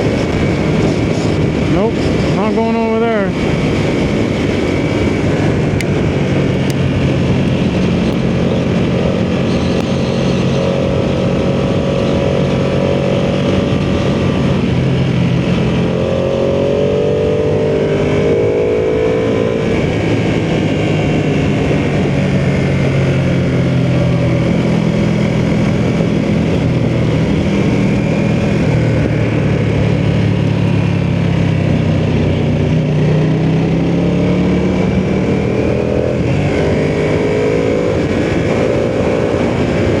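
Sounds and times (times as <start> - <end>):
motorcycle engine running: 0.0 - 40.0
wind rush: 0.0 - 40.0.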